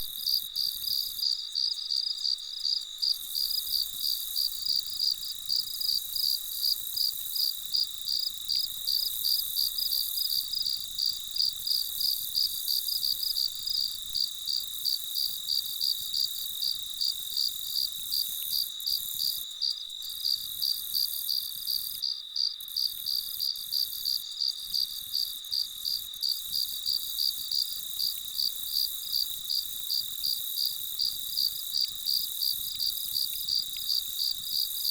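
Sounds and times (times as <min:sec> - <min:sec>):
continuous insect hiss: 0:00.0 - 0:34.9
crickets chirping: 0:00.0 - 0:34.9.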